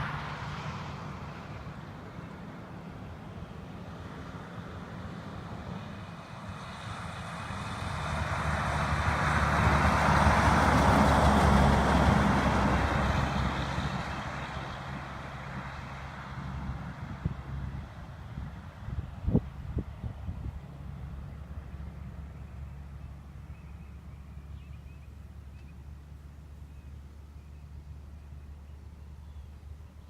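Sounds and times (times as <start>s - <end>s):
truck driving past: 0.0s - 30.0s.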